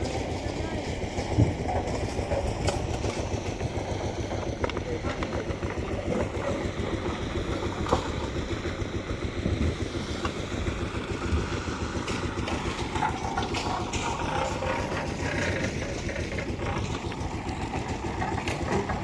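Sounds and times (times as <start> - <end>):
engine chugging: 0.0 - 19.0
scattered clatter: 0.0 - 19.0.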